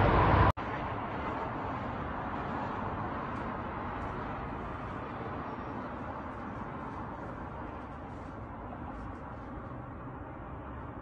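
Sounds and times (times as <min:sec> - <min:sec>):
city background hiss: 0:00.1 - 0:11.0.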